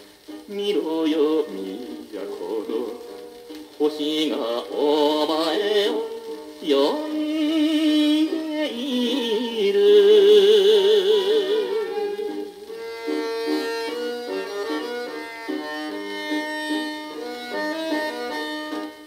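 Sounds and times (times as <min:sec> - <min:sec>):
popular song record playing: 0:00.0 - 0:19.0.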